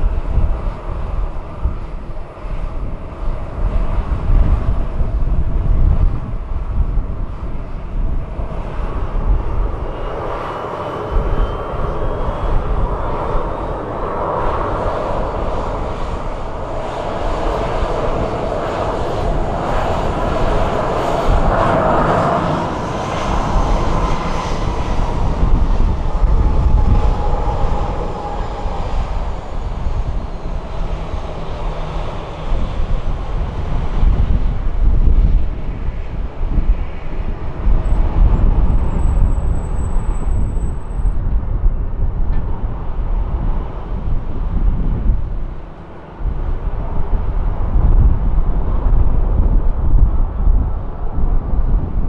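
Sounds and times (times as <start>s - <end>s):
engine whine: 0.0s - 52.0s
jet engines rumbling: 0.0s - 52.0s.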